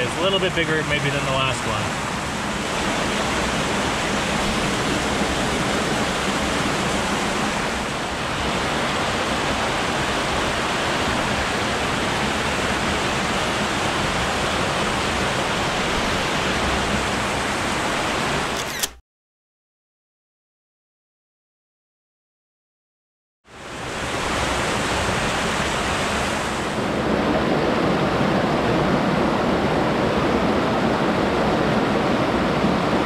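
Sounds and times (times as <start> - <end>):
stream rushing over rocks: 0.0 - 18.6, 23.5 - 33.0.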